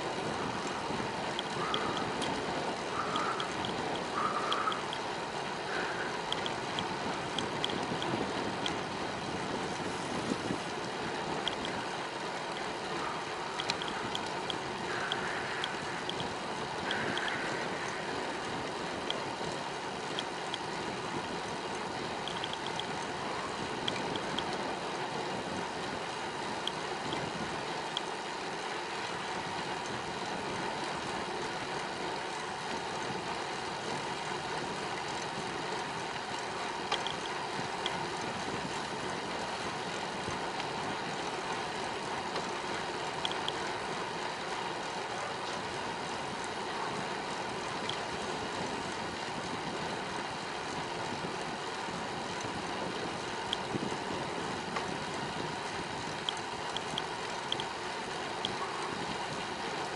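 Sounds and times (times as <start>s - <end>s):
wind and tyres rushing: 0.0s - 59.9s
light ticks: 0.3s - 59.9s.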